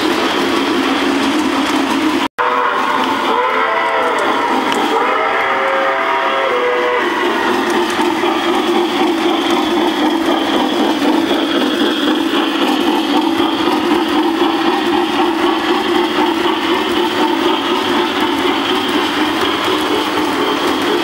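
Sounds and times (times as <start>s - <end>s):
model train wheels rolling on track: 0.0s - 21.0s.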